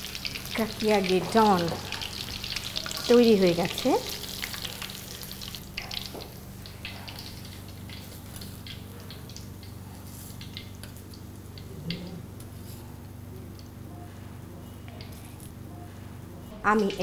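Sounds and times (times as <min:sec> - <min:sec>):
hot oil crackling and spitting: 0:00.0 - 0:13.7
steady low hum: 0:00.0 - 0:17.0.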